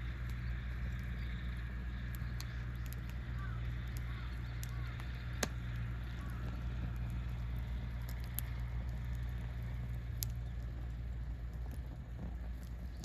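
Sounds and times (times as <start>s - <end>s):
campfire crackling and popping: 0.0s - 13.0s
low fire rumble: 0.0s - 13.0s.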